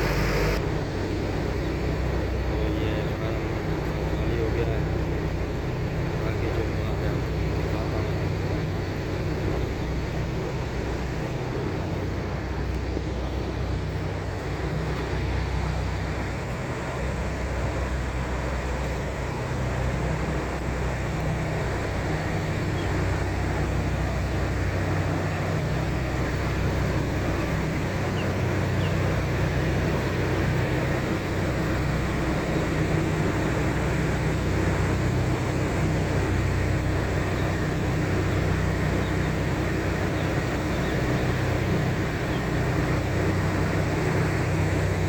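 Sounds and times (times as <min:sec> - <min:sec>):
vehicle engine humming: 0:00.0 - 0:45.0.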